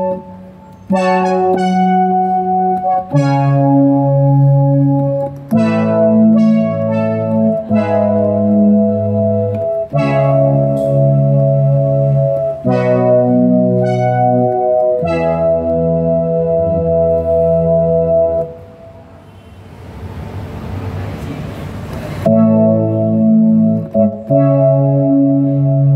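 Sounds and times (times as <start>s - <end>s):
keyboard playing slow chords: 0.0s - 19.2s, 22.2s - 25.9s.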